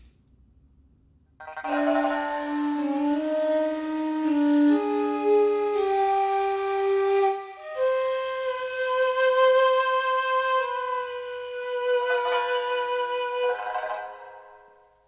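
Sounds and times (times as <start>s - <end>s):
wind instrument long notes: 1.5s - 14.8s.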